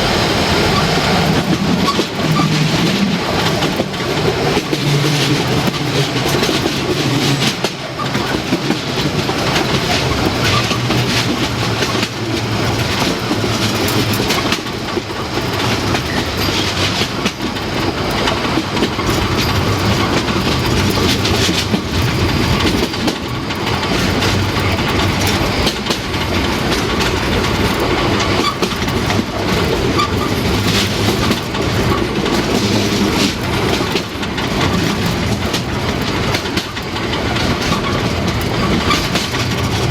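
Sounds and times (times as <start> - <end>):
steam train running: 0.0 - 39.9
wheels clicking over rail joints: 0.0 - 39.9.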